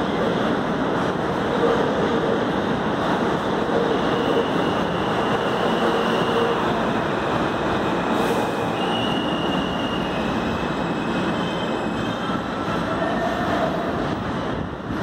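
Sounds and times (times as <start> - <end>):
subway train wheels rumbling on rail: 0.0 - 15.0.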